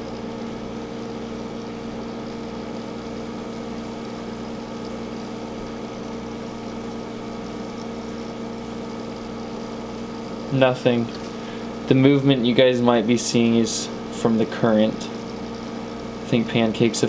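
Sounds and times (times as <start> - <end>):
aquarium pump humming: 0.0 - 17.0.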